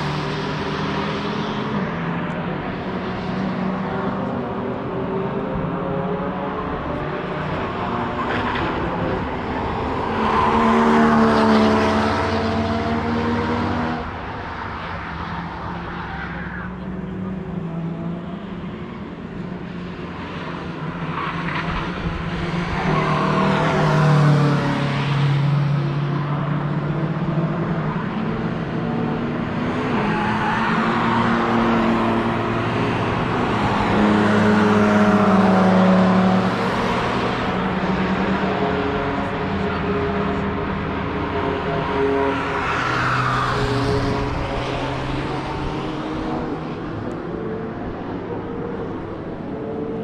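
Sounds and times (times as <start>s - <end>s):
race cars driving past: 0.0s - 50.0s.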